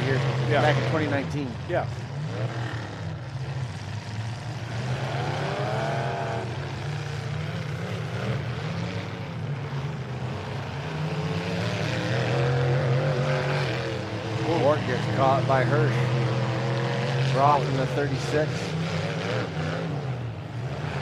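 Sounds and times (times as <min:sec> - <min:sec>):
engine revving: 0:00.0 - 0:21.0
truck engines running: 0:00.0 - 0:21.0.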